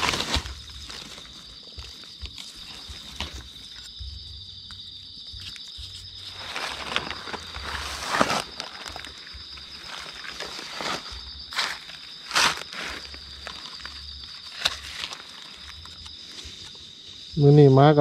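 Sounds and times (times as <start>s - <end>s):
footsteps on forest floor: 0.0s - 17.0s
high-pitched insect drone: 0.0s - 18.0s.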